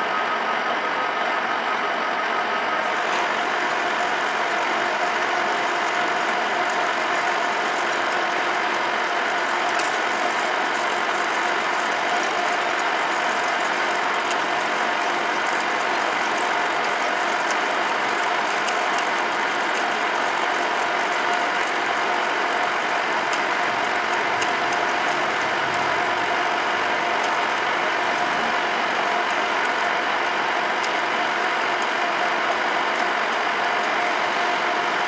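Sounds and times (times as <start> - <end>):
metal lathe cutting: 2.8 - 35.0.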